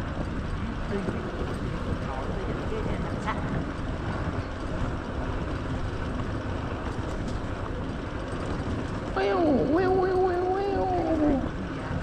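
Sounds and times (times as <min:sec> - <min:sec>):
motorbike engine rumble: 0:00.0 - 0:12.0
wind on microphone: 0:00.0 - 0:12.0.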